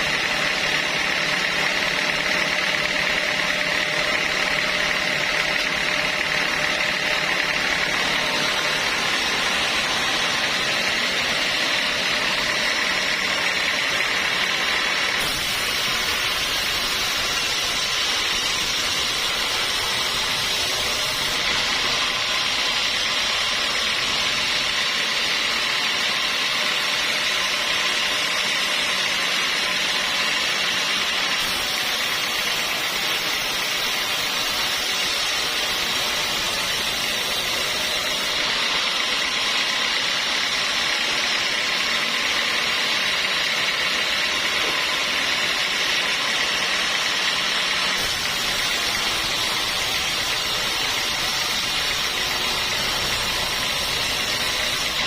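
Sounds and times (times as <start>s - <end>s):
sawmill saw whining: 0.0s - 55.0s.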